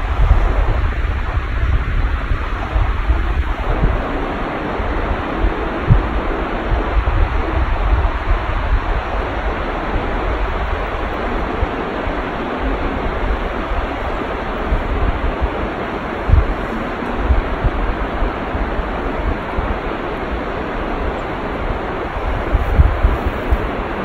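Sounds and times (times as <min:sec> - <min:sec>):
river rushing: 0:00.0 - 0:24.0
wind buffeting microphone: 0:00.0 - 0:24.0.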